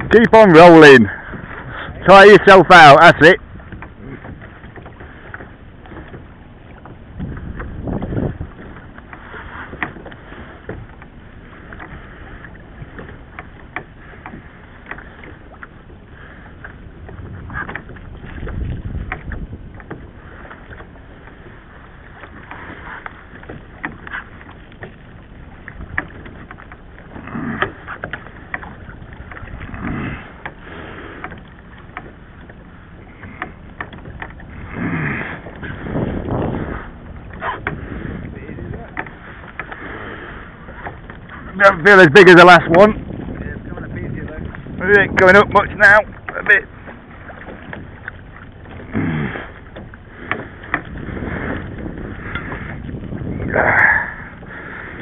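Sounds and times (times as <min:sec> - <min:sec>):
low water rushes: 0:00.0 - 0:55.0
water lapping against kayak hull: 0:00.0 - 0:55.0.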